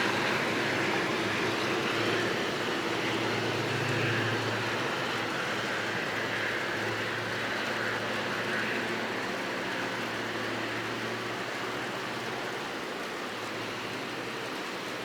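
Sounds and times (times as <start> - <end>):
train low drone: 0.0 - 15.0.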